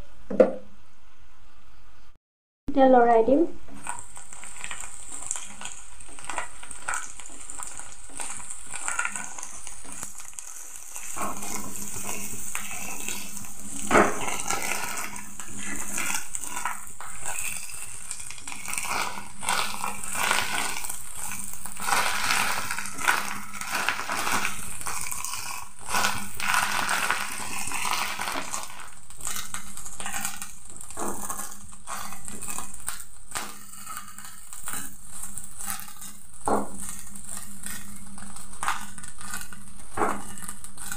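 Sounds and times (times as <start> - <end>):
fish roe sizzling in oil: 3.7 - 40.9
spatula scraping metal wok: 3.8 - 40.9.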